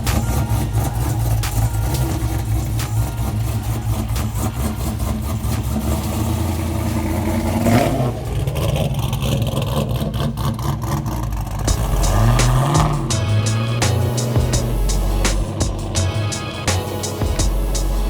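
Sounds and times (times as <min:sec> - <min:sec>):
engine idling with choppy lope: 0:00.0 - 0:18.0.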